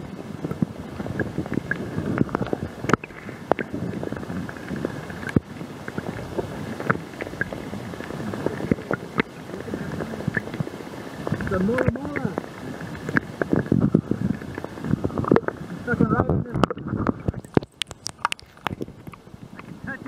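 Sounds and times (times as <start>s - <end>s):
muffled underwater rumble: 0.0s - 20.0s
sharp underwater clicks and knocks: 0.4s - 19.8s.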